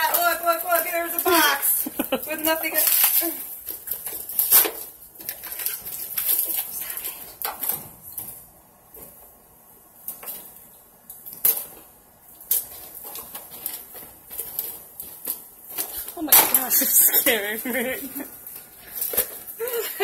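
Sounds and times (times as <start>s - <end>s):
plastic wrapping crinkling: 0.0s - 20.0s.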